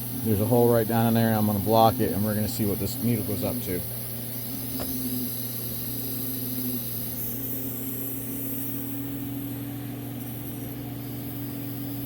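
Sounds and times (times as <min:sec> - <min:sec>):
air hissing: 0:00.0 - 0:12.0
vacuum pump humming: 0:00.0 - 0:12.0.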